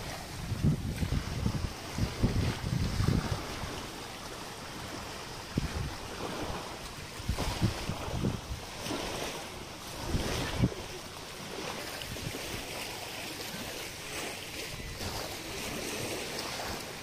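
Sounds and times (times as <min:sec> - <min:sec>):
waves lapping at rocky shore: 0:00.0 - 0:17.0
wind on microphone: 0:00.0 - 0:17.0.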